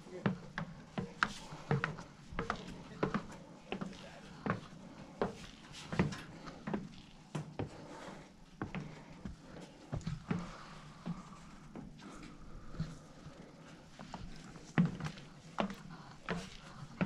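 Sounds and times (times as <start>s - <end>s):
footsteps on wooden stairs: 0.1s - 17.0s.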